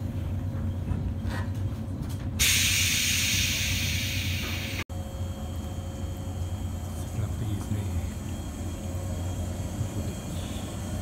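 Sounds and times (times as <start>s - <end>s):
electric train humming: 1.6s - 11.0s.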